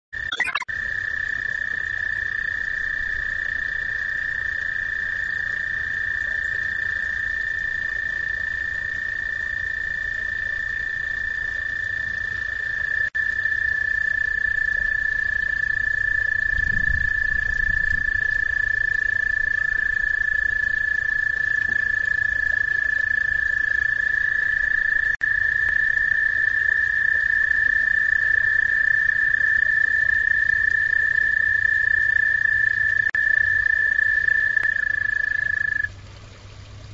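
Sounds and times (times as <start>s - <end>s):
frogs trilling: 0.2s - 35.9s.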